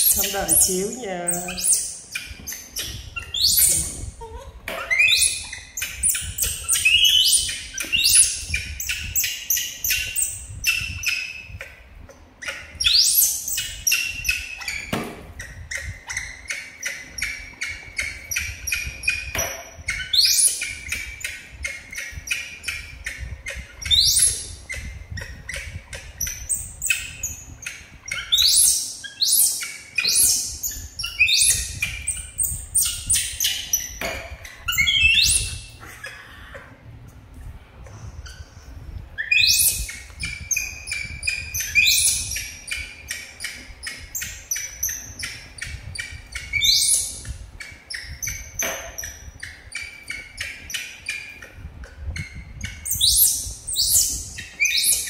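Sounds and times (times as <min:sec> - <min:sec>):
baby monkeys squeaking and chirping: 0:00.0 - 0:11.8, 0:12.4 - 0:36.6, 0:37.9 - 0:55.0.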